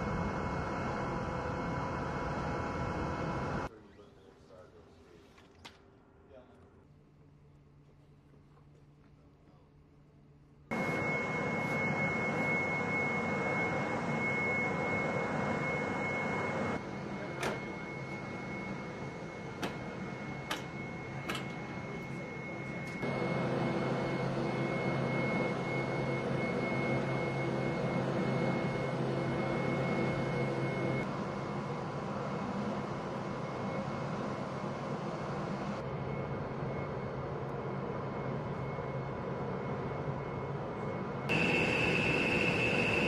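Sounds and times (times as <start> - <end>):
machinery high whine: 0.0 - 4.2, 10.4 - 43.0.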